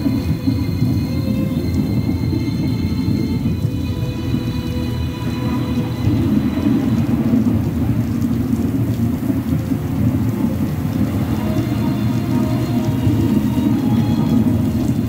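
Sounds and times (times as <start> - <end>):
deep thunder rumble: 0.0 - 15.0
heavy rain rushing: 0.0 - 15.0
music score: 0.0 - 15.0.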